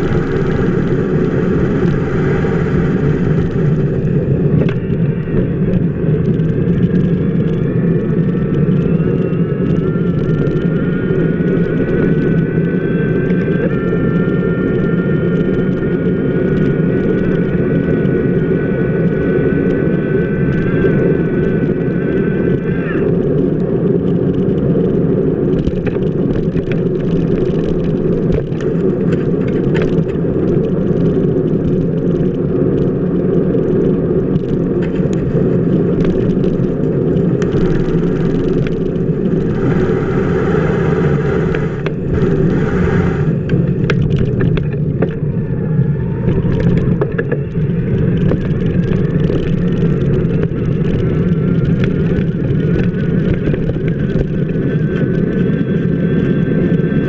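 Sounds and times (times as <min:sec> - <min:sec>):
bicycle wheel rolling on wet pavement: 0:00.0 - 0:57.0.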